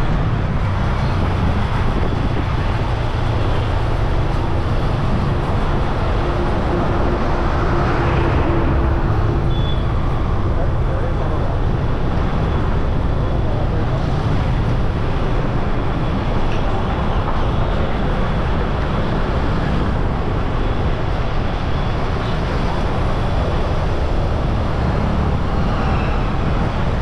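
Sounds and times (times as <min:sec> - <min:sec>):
motorcycle and scooter engines: 0:00.0 - 0:27.0
wind rumble on microphone: 0:00.0 - 0:27.0.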